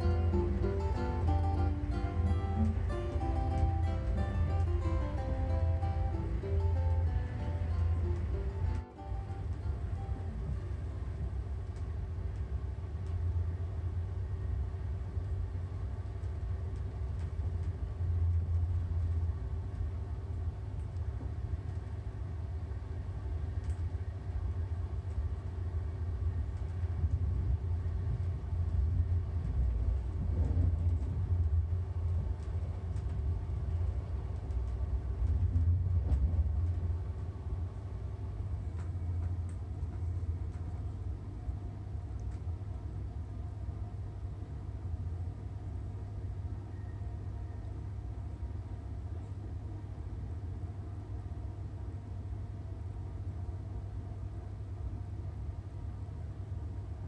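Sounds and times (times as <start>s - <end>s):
faint constant hum: 0.0s - 57.0s
train rumbling on rails: 0.0s - 57.0s.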